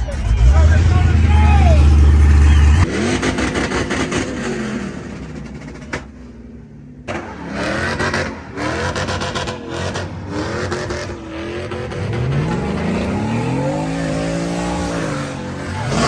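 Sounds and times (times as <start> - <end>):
truck engine revving: 0.0 - 6.1, 7.0 - 16.0.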